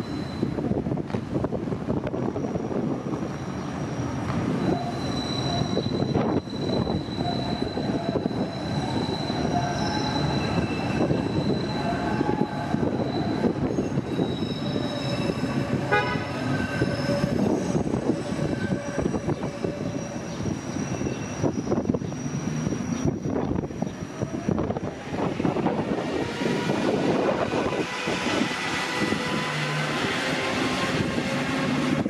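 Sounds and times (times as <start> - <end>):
steel wheels squealing: 0.0 - 0.7, 2.3 - 32.0
train rumbling on tracks: 0.0 - 32.0.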